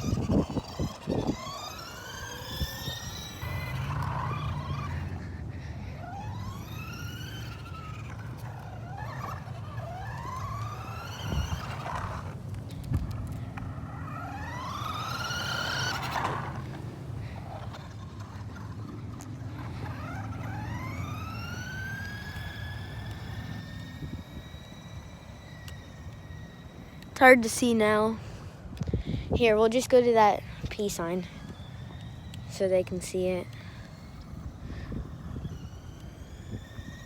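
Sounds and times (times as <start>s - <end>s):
toy car electric motor whining: 0.0s - 37.0s.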